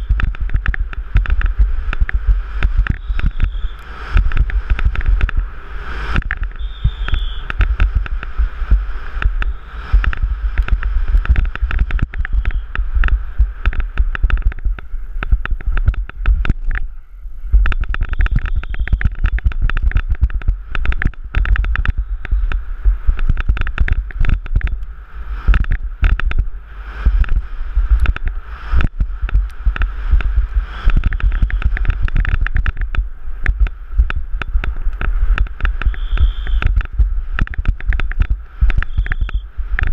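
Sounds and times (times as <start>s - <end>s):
mountain bike rattling on dirt: 0.0s - 16.9s, 17.6s - 24.8s, 25.4s - 39.9s
low rumble: 0.0s - 39.9s.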